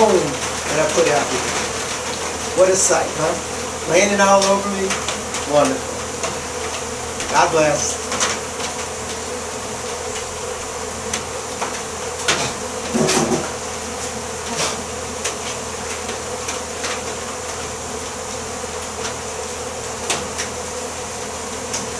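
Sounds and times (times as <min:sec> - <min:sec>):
bees buzzing: 0:00.0 - 0:21.9.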